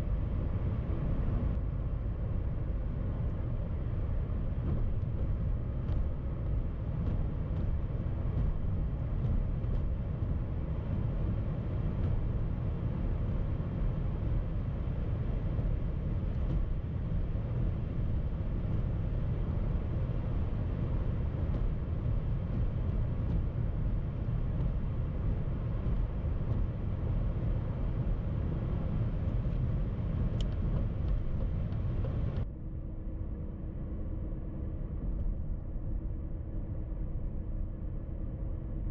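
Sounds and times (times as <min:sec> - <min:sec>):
tyre and wind road noise: 0:00.0 - 0:32.5
low steady hum: 0:00.0 - 0:38.9.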